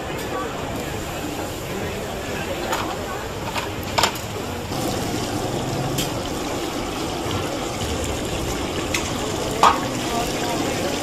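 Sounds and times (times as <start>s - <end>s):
fish deep-frying in oil: 0.8s - 11.0s.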